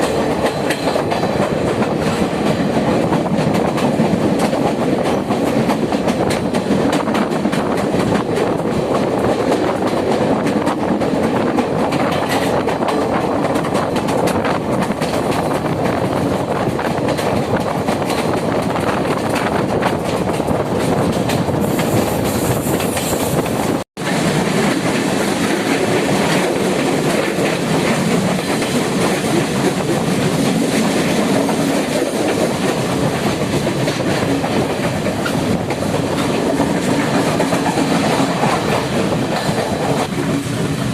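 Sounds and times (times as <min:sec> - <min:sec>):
clickety-clack over rail joints: 0:00.0 - 0:40.9
train wheels rumbling and rattling: 0:00.0 - 0:40.9.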